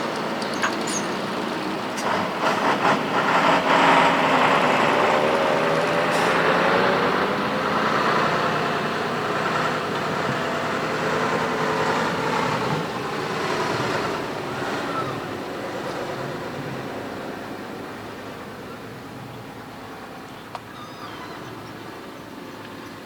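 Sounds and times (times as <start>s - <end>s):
truck engine driving off: 0.0s - 23.0s.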